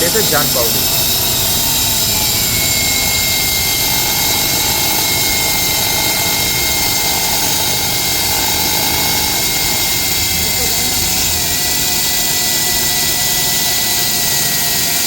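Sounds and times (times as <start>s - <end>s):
ring saw running: 0.0s - 15.0s.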